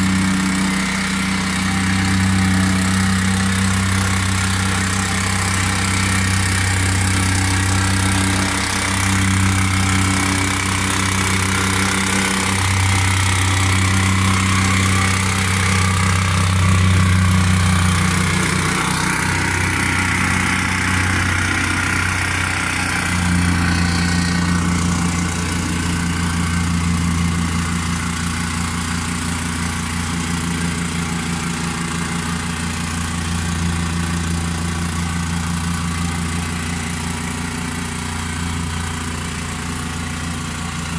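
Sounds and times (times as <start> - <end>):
plate compactor running: 0.0 - 40.9.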